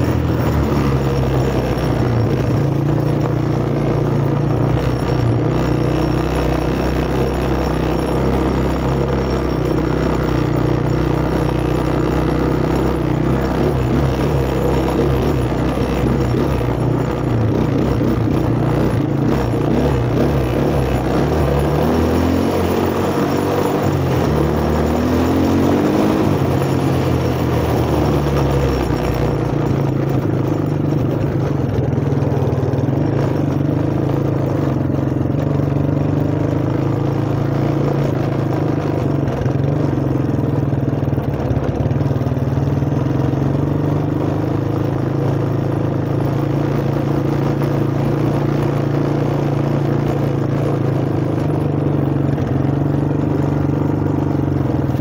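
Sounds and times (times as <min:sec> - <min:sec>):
four-wheeler engine running: 0:00.0 - 0:55.0.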